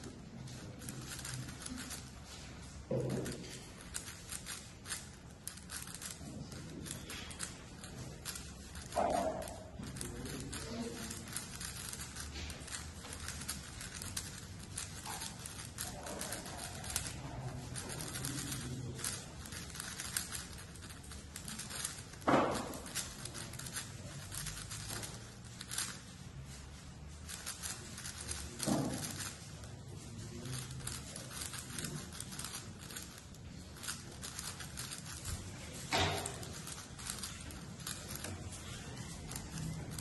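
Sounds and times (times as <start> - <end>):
puzzle cube clicking and rattling: 0.0 - 40.0.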